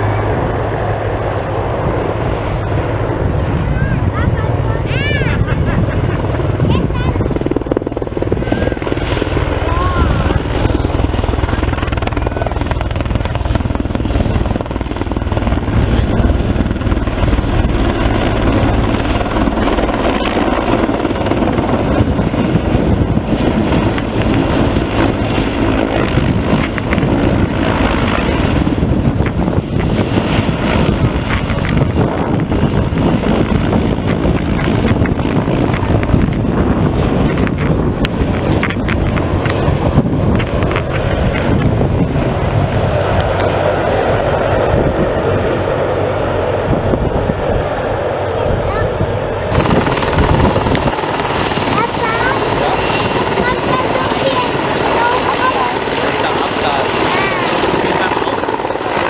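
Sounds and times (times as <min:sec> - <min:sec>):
helicopter rotor and turbine noise: 0:00.0 - 0:59.0.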